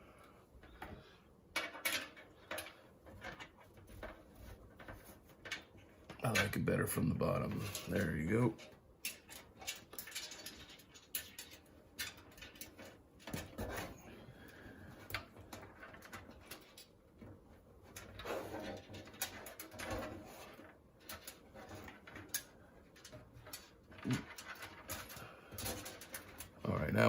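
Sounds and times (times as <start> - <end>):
cables clicking and rustling: 0.0 - 27.0.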